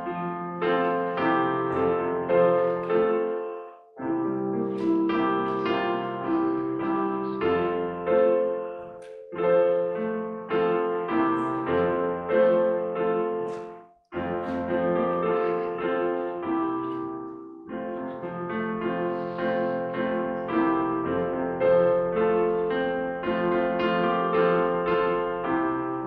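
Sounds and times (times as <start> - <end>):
quiet piano chords: 0.0 - 26.0.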